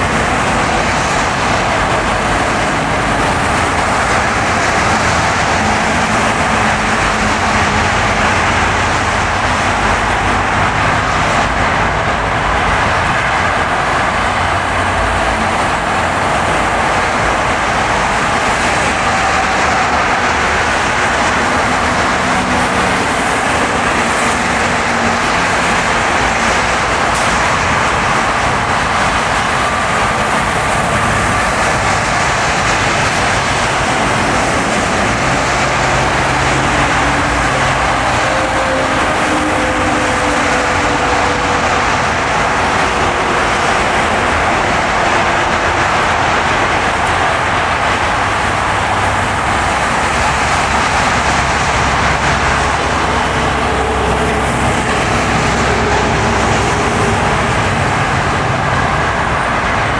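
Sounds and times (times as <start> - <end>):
tyre and road noise: 0.0 - 59.9.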